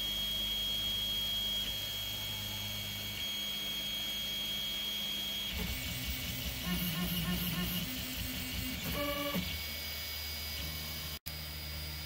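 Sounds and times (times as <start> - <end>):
stepper motors buzzing: 0.3 - 12.0.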